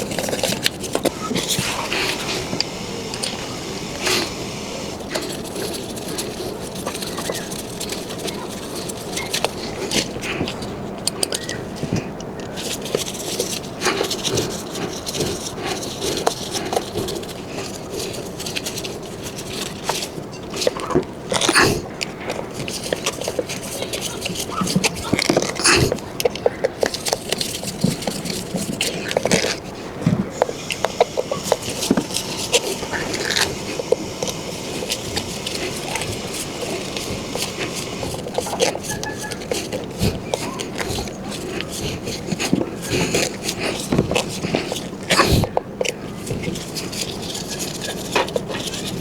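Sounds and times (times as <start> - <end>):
tools and parts clicking and rattling: 4.9 - 49.0.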